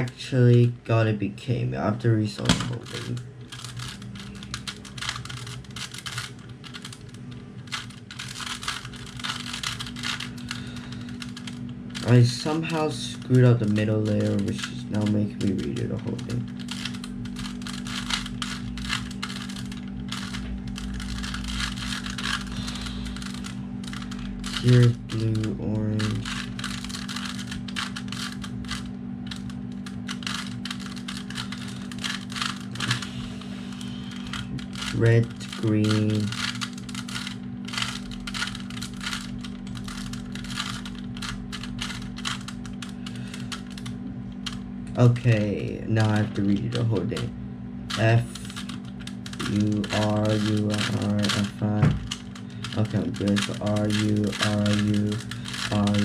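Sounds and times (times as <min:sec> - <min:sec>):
steady low hum: 0:00.0 - 0:56.0
puzzle cube clicking and rattling: 0:02.4 - 0:44.6, 0:46.0 - 0:47.3, 0:47.9 - 0:56.0.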